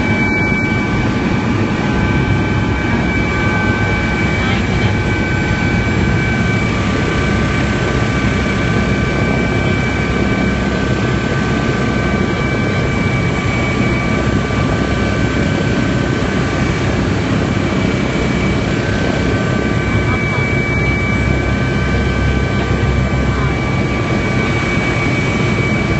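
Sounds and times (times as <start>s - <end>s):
helicopter engine and rotor noise: 0.0s - 25.9s
high-pitched whine: 0.0s - 25.9s.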